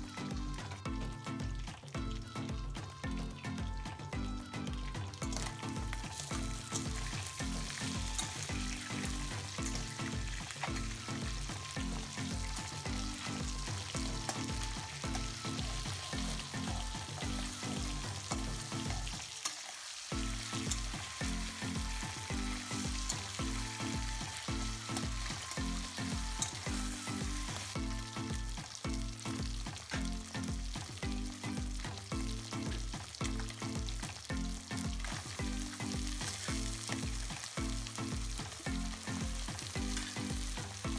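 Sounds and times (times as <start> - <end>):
background music with steady beat: 0.0 - 19.5, 20.1 - 40.9
fish sizzling in oil: 0.0 - 40.9.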